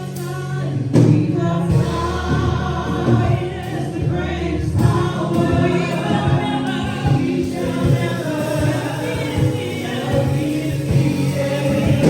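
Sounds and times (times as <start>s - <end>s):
gospel choir singing: 0.0s - 12.0s
instrumental accompaniment: 0.0s - 12.0s.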